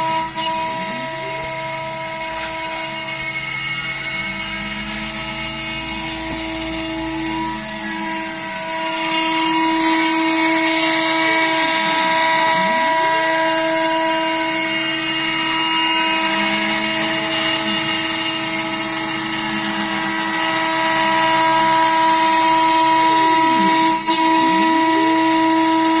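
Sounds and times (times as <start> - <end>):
router spindle whining: 0.0 - 26.0.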